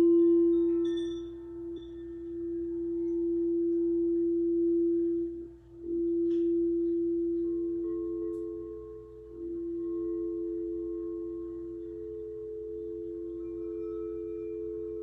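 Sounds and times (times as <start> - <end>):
higher singing bowl tone: 0.0 - 15.0
low singing bowl tone: 0.0 - 15.0.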